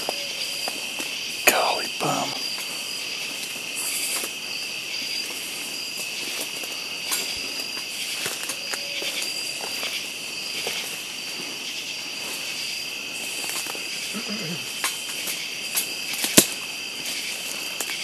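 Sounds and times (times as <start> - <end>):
insects chirping at night: 0.0 - 18.0.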